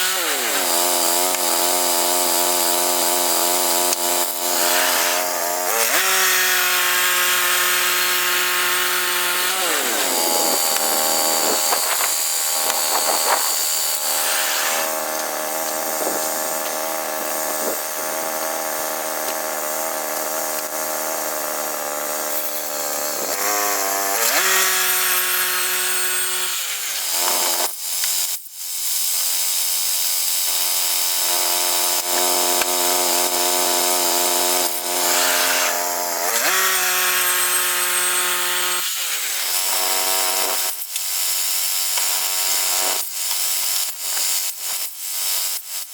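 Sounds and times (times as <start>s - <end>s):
sawmill engine sawing a log: 0.0s - 45.9s.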